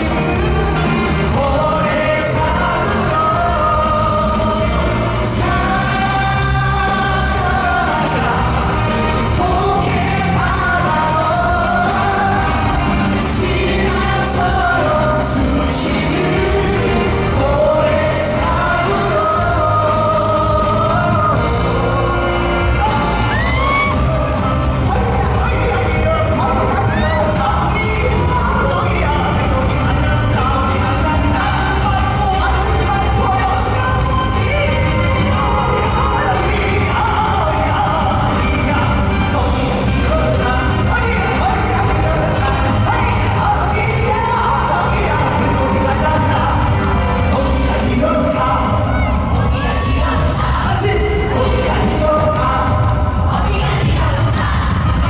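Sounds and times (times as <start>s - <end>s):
man singing long notes: 0.0s - 54.6s
live band playing: 0.0s - 55.0s.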